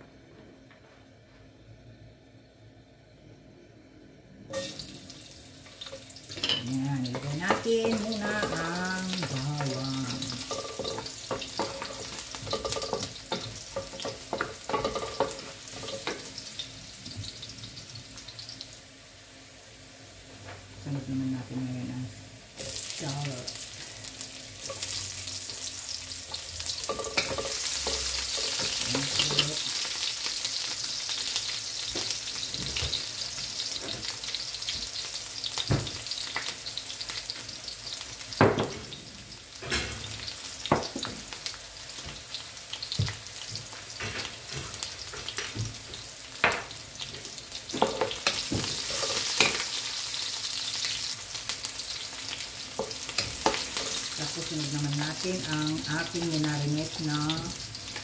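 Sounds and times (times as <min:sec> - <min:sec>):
garlic sizzling in oil: 0:04.5 - 0:58.0.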